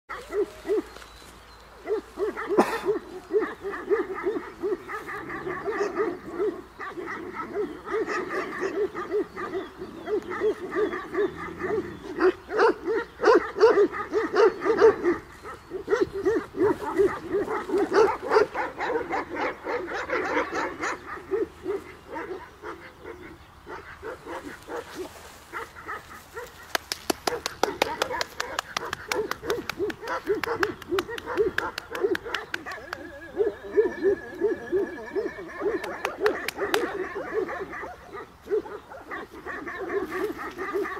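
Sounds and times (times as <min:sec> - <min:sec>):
dogs barking: 0:00.1 - 0:01.0, 0:01.8 - 0:40.9.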